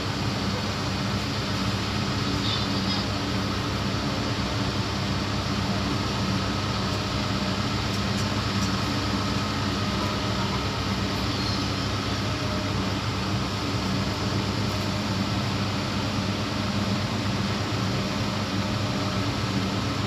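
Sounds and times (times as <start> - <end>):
heavy machinery engine running: 0.0 - 20.0.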